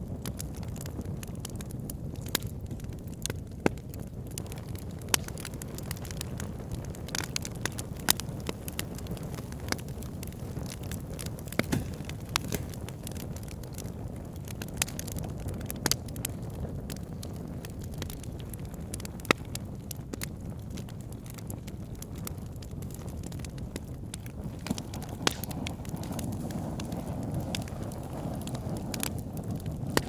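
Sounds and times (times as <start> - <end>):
fire crackles and pops: 0.0 - 30.0
wood fire burning: 0.0 - 30.0.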